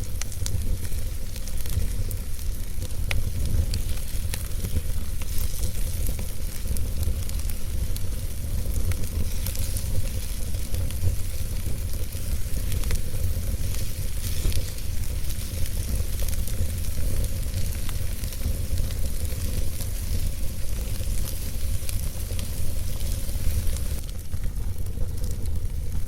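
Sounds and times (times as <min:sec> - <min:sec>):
burning logs crackling and popping: 0:00.0 - 0:26.0
fire rumbling: 0:00.0 - 0:26.0.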